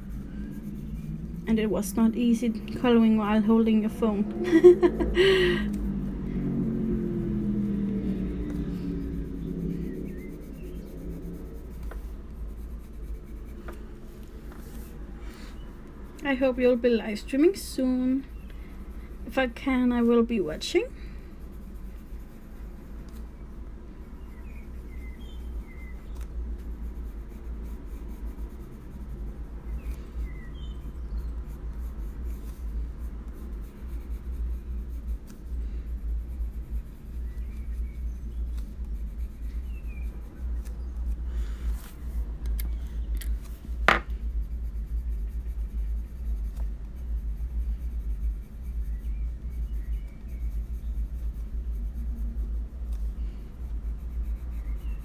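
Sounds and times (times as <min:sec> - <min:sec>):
pencil scratching on paper: 0:00.0 - 0:05.1, 0:05.7 - 0:55.0
steady low hum: 0:00.0 - 0:55.0.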